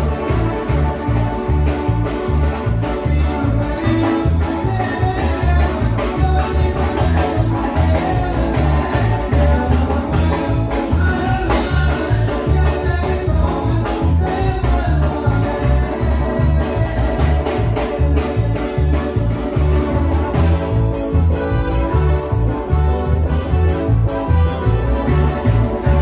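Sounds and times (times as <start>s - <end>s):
live band playing latin dance music: 0.0s - 26.0s.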